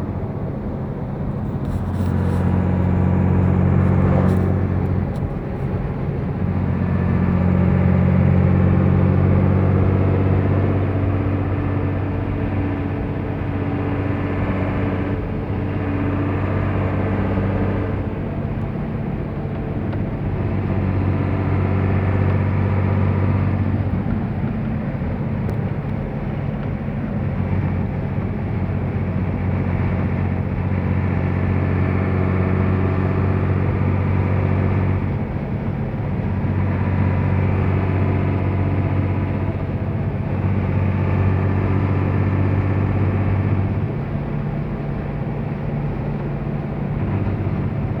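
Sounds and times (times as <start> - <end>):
diesel truck engine under load: 0.0 - 48.0.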